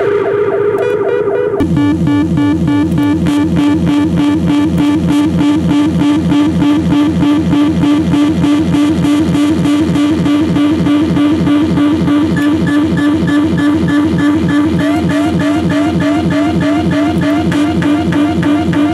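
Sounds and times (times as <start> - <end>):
synth siren pulsing with echo: 0.0 - 18.9.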